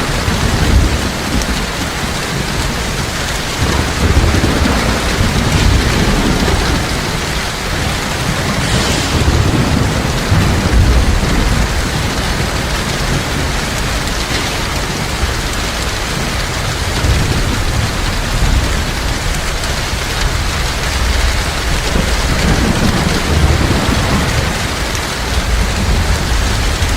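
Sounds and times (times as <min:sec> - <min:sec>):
heavy rain pouring: 0:00.0 - 0:26.9
low rolling thunder: 0:00.0 - 0:26.9.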